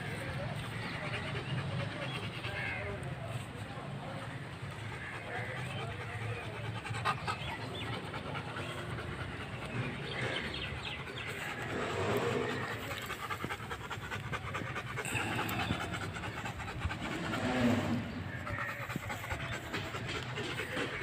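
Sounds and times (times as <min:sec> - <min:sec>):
dog panting: 0:00.0 - 0:21.0.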